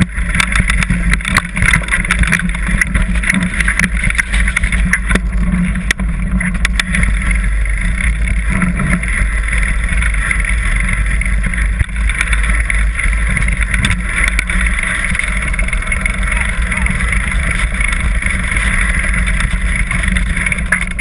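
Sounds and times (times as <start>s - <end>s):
bike rattling over rocks: 0.0s - 21.0s
tyres on loose stones: 0.0s - 21.0s
wind on microphone: 0.0s - 21.0s.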